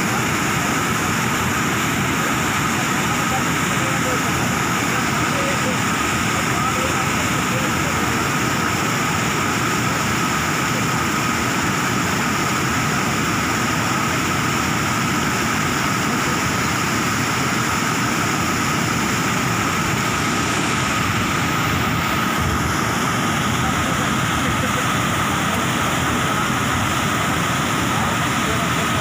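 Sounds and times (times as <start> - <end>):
floodwater rushing through channel: 0.0 - 29.0.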